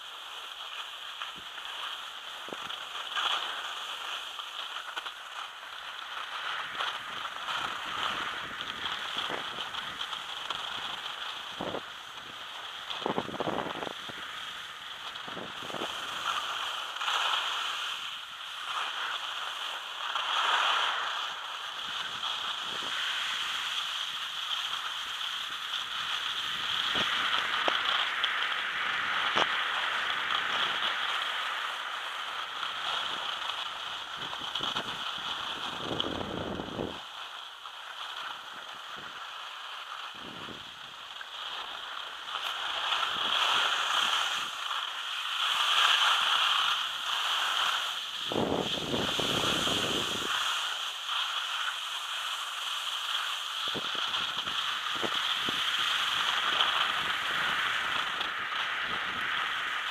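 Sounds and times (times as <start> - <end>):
skis scraping over packed snow: 0.0 - 59.9.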